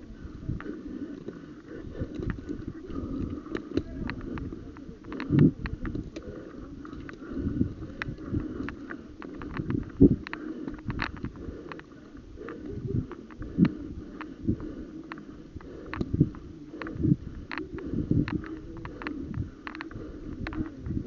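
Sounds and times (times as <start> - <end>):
low rustling rumble: 0.0 - 21.0
sharp clicks and knocks: 2.0 - 21.0.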